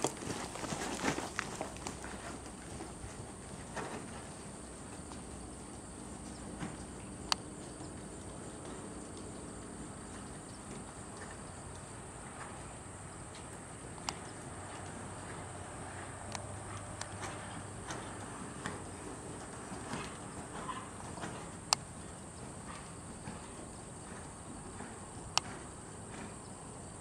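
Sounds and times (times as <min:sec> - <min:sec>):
horse trotting on sand: 0:00.0 - 0:27.0
insects chirring: 0:00.0 - 0:27.0.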